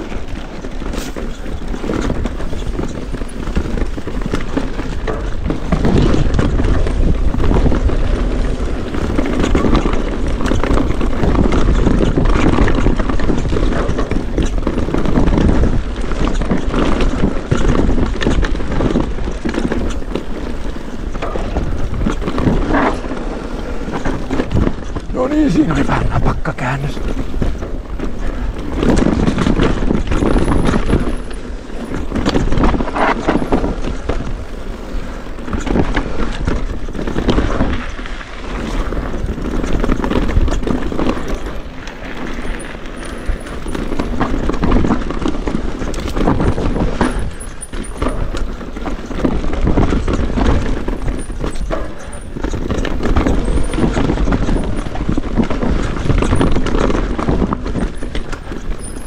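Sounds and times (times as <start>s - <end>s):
bike rattling and knocking: 0.0s - 59.0s
bike tyres rolling over dirt: 0.0s - 59.0s.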